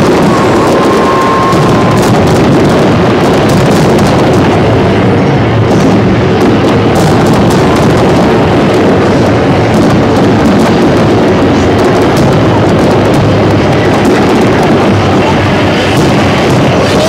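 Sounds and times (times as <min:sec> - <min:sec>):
sharp firework crackles: 0:00.0 - 0:05.0, 0:05.6 - 0:17.0
fireworks bursting and rumbling: 0:00.0 - 0:17.0.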